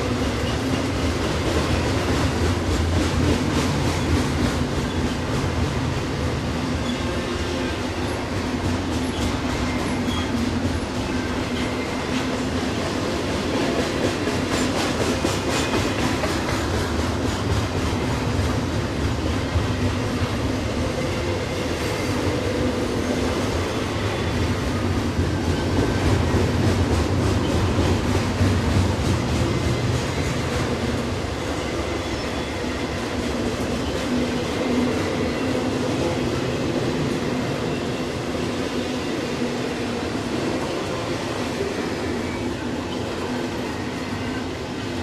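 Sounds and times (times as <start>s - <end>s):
freight train wheels clacking: 0.0s - 45.0s.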